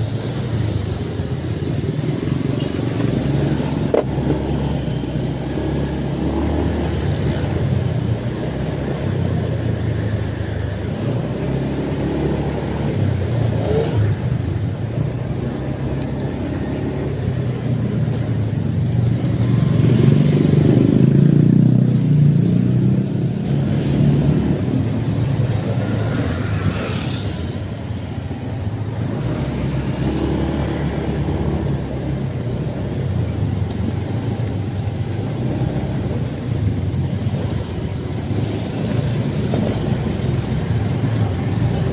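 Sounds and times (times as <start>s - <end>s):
road noise: 0.0s - 41.9s.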